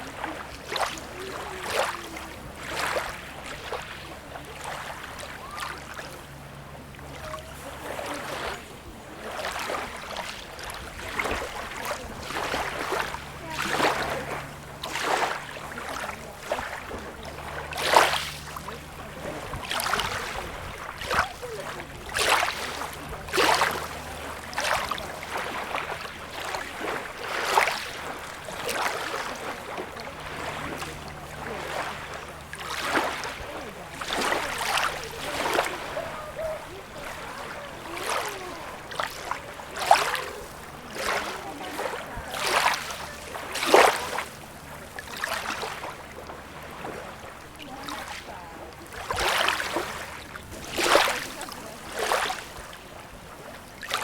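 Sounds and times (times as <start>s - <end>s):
steady low hum: 0.0s - 53.8s
small waves splashing on shore: 0.0s - 54.0s.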